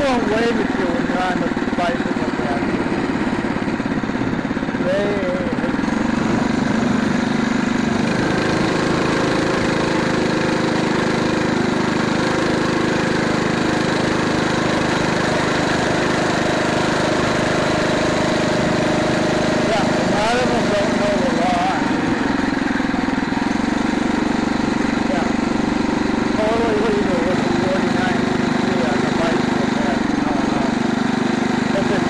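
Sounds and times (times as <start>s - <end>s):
small gas engine running: 0.0s - 32.0s.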